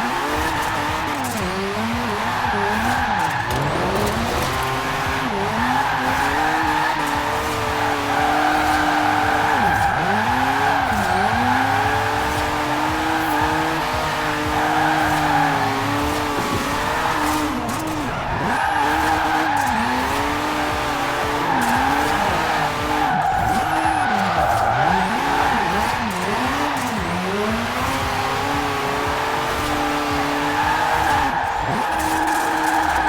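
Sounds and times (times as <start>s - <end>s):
rotary engine revving: 0.0s - 33.0s
tires skidding: 0.0s - 33.0s.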